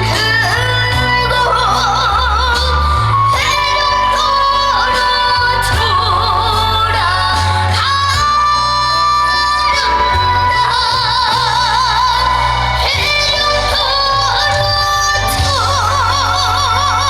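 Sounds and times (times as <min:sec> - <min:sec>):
band playing: 0:00.0 - 0:17.0
person singing with vibrato: 0:00.0 - 0:17.0.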